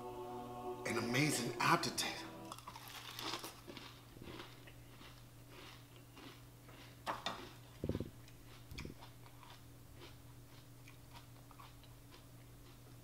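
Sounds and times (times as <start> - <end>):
person chewing cereal crunching: 2.5 - 13.0.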